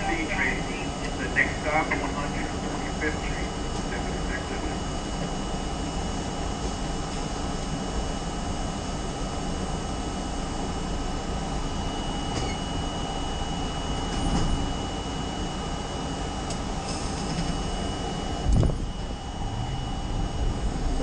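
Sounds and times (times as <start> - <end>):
subway train rumbling in tunnel: 0.0 - 21.0.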